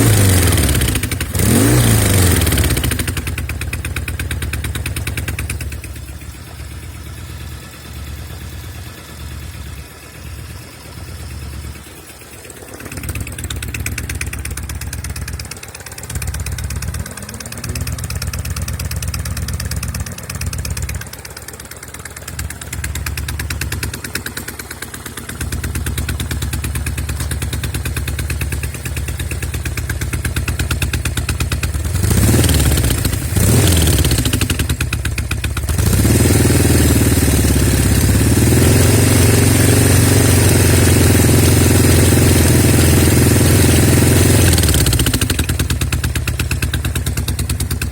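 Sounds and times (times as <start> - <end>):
motorcycle engine idling unevenly: 0.0 - 47.9.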